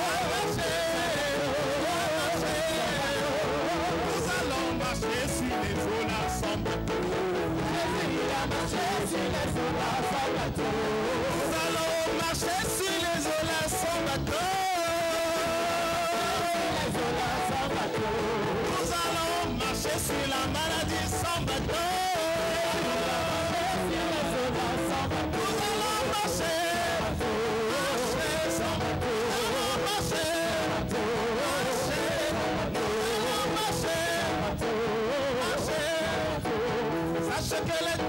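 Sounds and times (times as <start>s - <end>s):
amplified band with guitar: 0.0s - 38.0s
man singing into a microphone: 0.0s - 38.0s.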